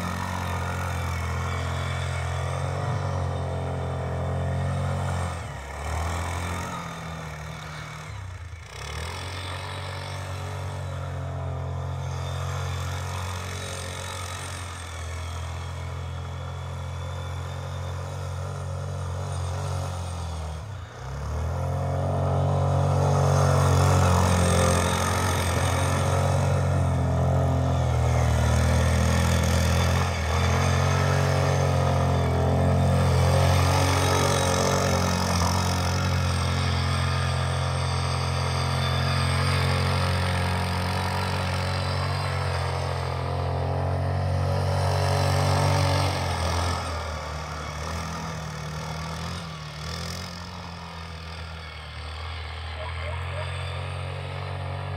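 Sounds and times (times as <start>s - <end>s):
quad bike engine revving: 0.0s - 54.9s.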